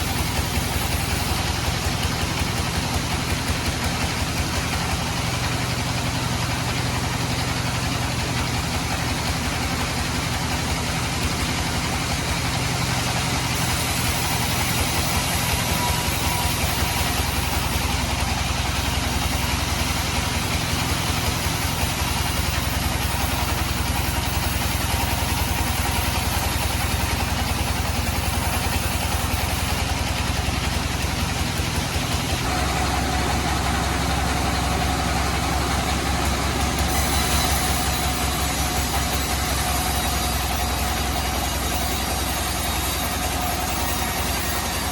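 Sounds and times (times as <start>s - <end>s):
sawmill mechanical drone: 0.0s - 44.9s.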